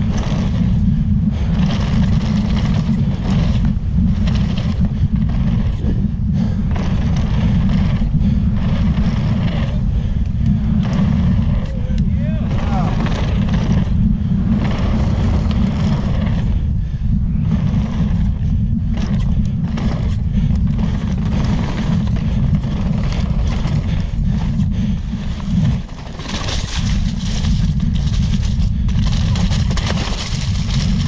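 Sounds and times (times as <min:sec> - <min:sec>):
bike knocks and rattles: 0:00.0 - 0:31.0
tyres rolling over dirt: 0:00.0 - 0:31.0
wind on microphone: 0:00.0 - 0:31.0.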